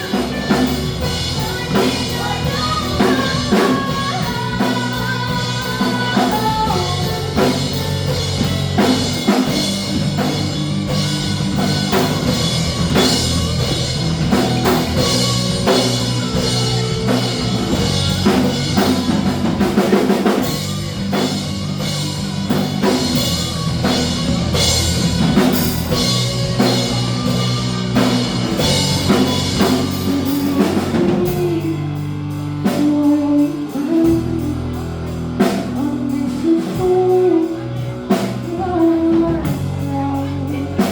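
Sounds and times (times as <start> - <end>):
bass guitar: 0.0 - 40.9
drum kit beats: 0.0 - 40.9
electric guitar: 0.0 - 40.9.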